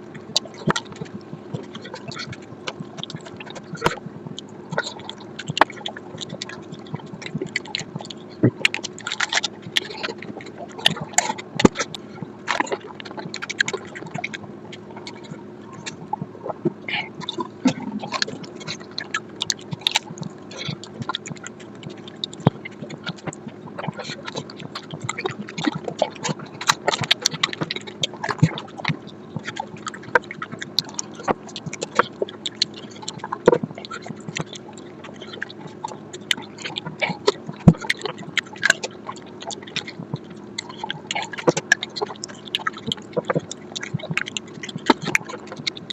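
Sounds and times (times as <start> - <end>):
faint steady hum: 0.0 - 45.9
wet chewing and lip-smacking: 0.0 - 45.9.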